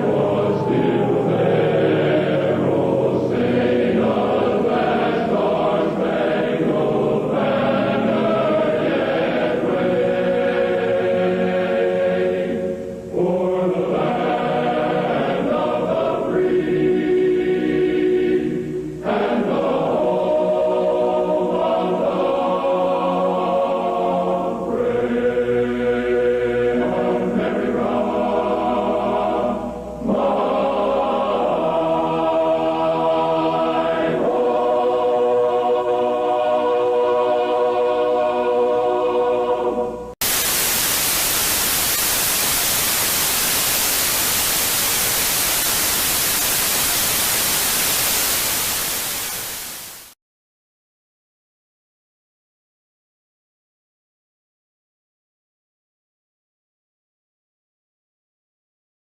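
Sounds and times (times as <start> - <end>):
choir singing sustained chords: 0.0 - 50.1.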